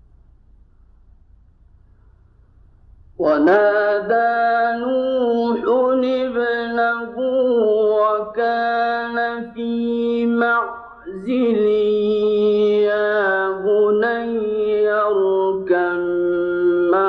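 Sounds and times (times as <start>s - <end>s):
man reciting melodically: 3.2s - 17.0s.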